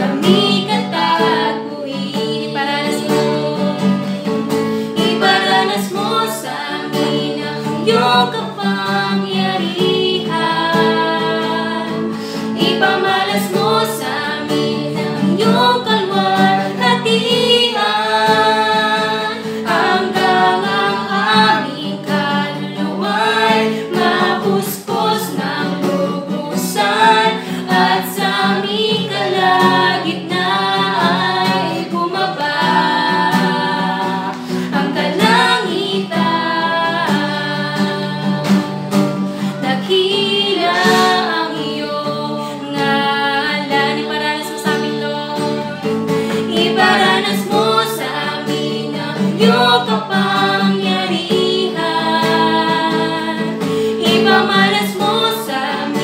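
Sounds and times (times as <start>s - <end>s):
acoustic guitar: 0.0s - 56.0s
backing singers: 0.0s - 56.0s
woman singing worship song: 0.0s - 56.0s.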